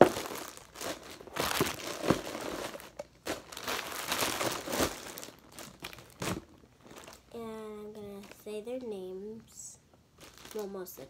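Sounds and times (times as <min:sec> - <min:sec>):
plastic bags crinkling: 0:00.0 - 0:07.4, 0:08.0 - 0:09.1, 0:10.2 - 0:11.0.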